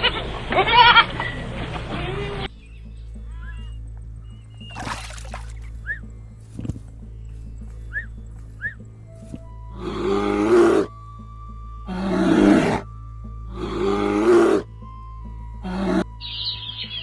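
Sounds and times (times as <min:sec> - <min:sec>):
soft background music: 0:02.3 - 0:17.0.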